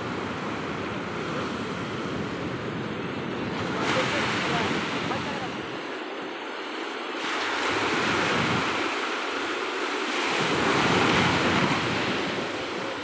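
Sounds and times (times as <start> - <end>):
sea surf breaking on beach: 0.0 - 13.0
wind rumbling on microphone: 0.0 - 13.0.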